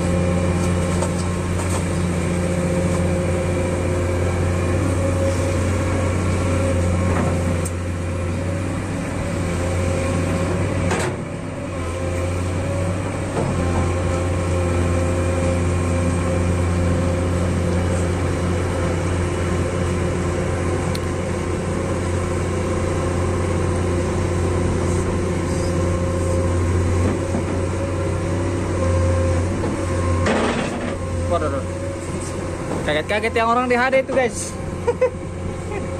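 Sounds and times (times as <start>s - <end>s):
excavator diesel engine under load: 0.0s - 35.9s.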